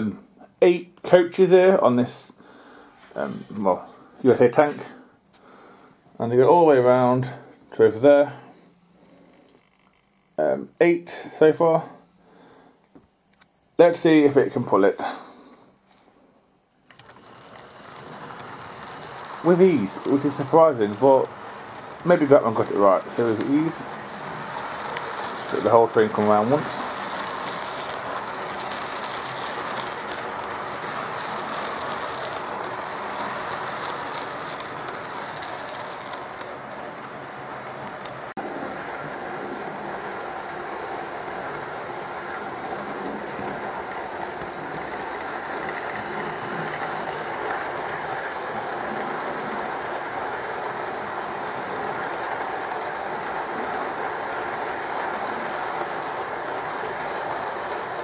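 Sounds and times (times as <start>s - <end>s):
model train rolling on rails: 1.0s - 2.2s, 6.2s - 12.6s, 16.8s - 58.0s.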